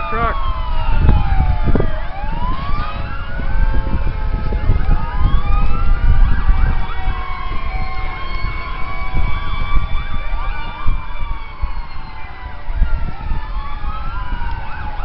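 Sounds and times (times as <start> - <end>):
fire truck sirens wailing: 0.0 - 15.0.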